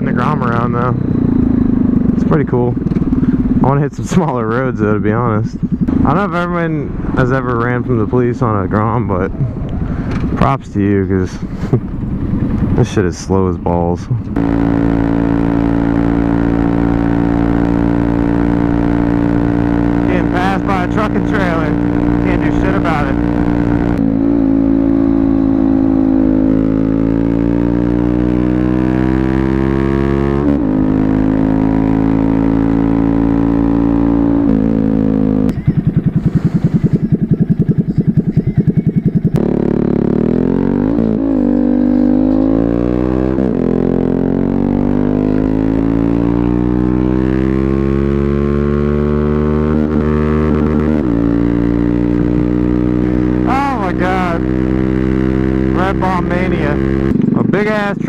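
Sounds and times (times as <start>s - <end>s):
low rapid pulsing: 0.0s - 58.0s
motorcycle engine revving: 0.0s - 58.0s.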